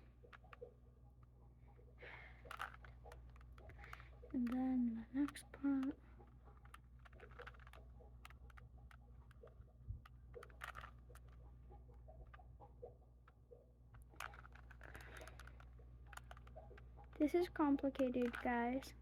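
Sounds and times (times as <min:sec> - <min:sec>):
plastic puzzle cube clicking: 0:00.3 - 0:00.7, 0:02.1 - 0:11.5, 0:13.2 - 0:19.0.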